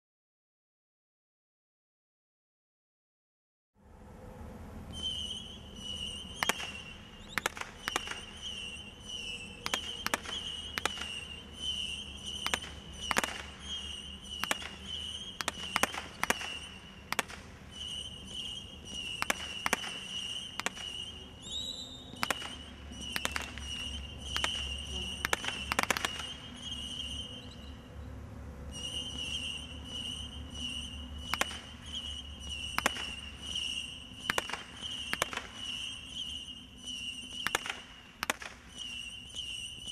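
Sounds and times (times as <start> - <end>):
firework shots: 5.0 - 27.5, 28.8 - 39.9.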